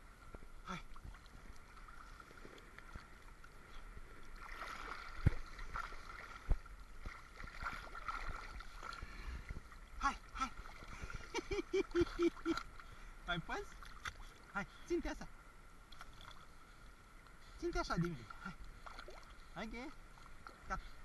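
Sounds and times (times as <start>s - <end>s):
sea water lapping: 0.1s - 21.0s.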